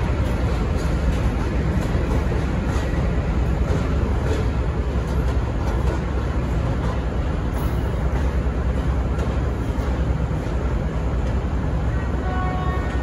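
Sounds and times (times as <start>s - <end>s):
wheels clicking over rail joints: 0.0s - 10.6s
train carriages rumbling past: 0.0s - 13.0s.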